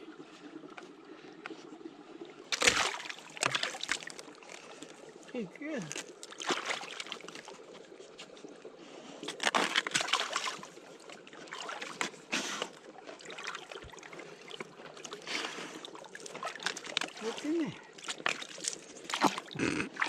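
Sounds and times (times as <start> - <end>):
footsteps sloshing through slush: 2.4 - 20.0.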